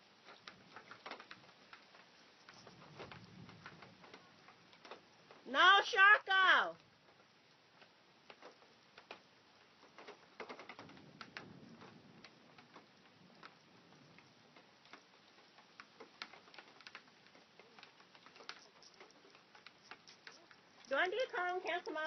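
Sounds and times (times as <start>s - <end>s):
faint clicks and ticks: 0.0s - 22.0s.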